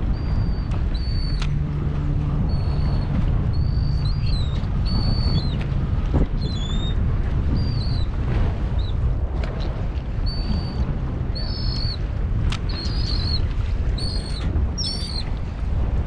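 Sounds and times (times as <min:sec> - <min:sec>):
boat engine hum: 0:00.0 - 0:16.0
wind buffeting microphone: 0:00.0 - 0:16.0.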